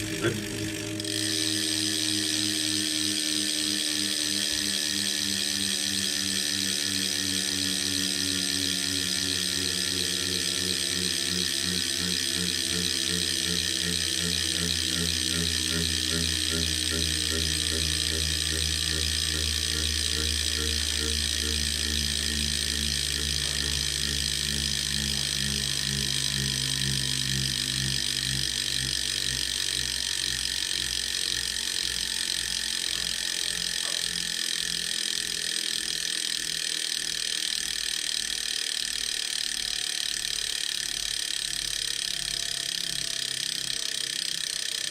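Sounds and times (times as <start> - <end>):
low rhythmic pulsing: 0.0 - 44.9
mechanical grinding whine: 0.0 - 44.9.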